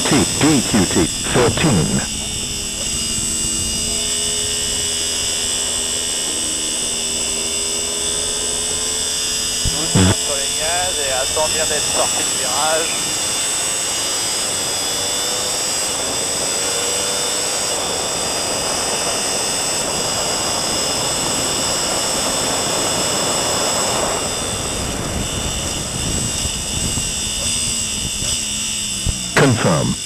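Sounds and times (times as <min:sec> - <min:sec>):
motorcycle engine at full throttle: 0:00.0 - 0:30.0.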